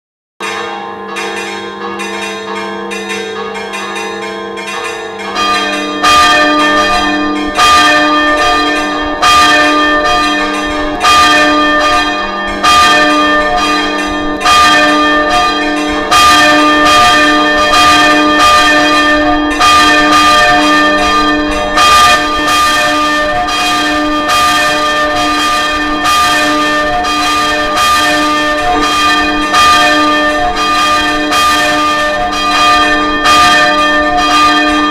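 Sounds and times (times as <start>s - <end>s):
church bells ringing: 0.4s - 34.9s.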